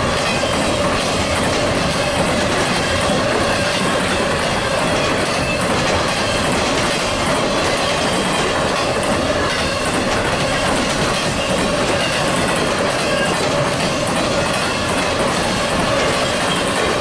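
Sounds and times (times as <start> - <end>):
steel wheels on rail: 0.0 - 17.0.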